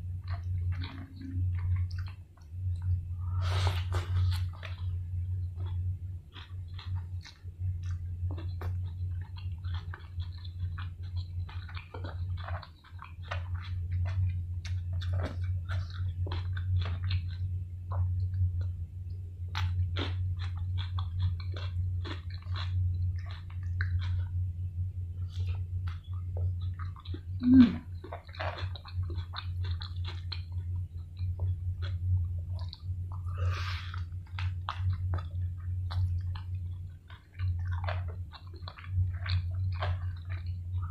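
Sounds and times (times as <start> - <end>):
moist chewing and mouth smacks: 0.0 - 40.9
steady low hum: 0.0 - 40.9.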